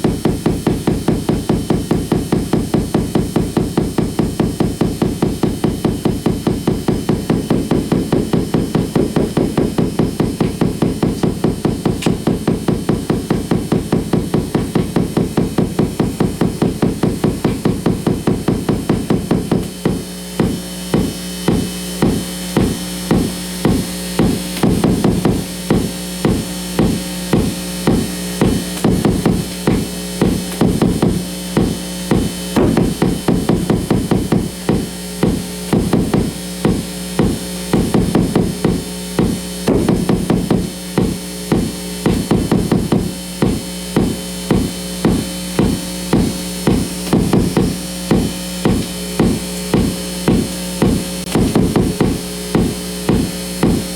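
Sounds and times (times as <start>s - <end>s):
pulsing electrical interference: 0.0s - 53.9s
steady buzzing tone: 0.0s - 53.9s.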